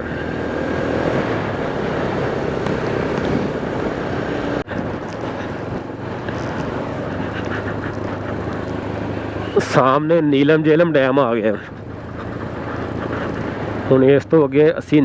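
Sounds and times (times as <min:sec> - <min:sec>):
motorcycle engine running: 0:00.0 - 0:14.2
wind and road noise: 0:00.0 - 0:15.0.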